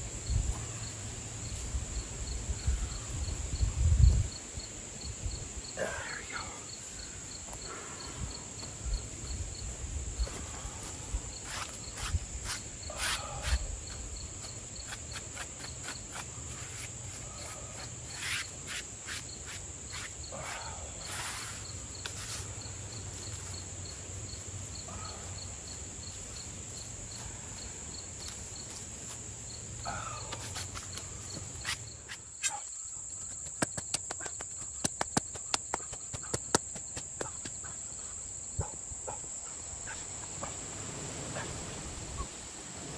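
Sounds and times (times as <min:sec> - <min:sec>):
cricket-like chirping: 0:00.0 - 0:42.9
insect chorus drone: 0:00.0 - 0:42.9.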